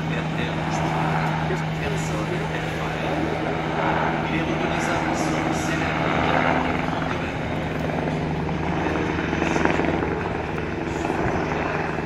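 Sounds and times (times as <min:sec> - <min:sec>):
helicopter engines and rotor hum: 0:00.0 - 0:12.0.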